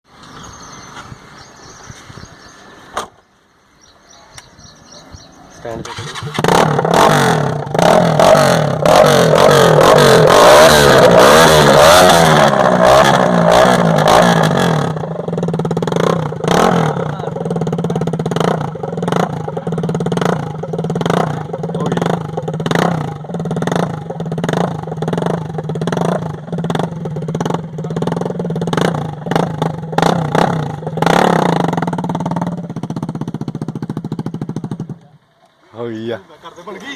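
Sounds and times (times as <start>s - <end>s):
loud motorcycle engine revving: 5.2s - 35.2s.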